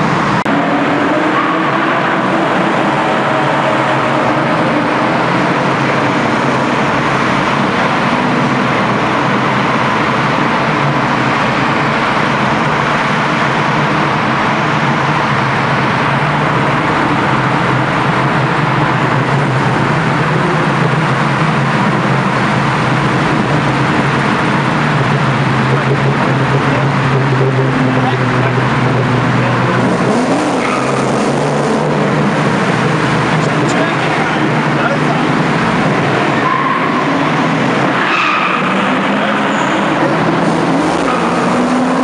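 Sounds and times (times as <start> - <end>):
car engines droning in tunnel: 0.0 - 42.0
tyre and road noise: 0.0 - 42.0.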